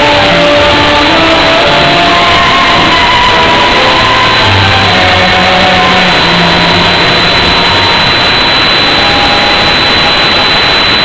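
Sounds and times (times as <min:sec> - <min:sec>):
distorted tango music: 0:00.0 - 0:11.0.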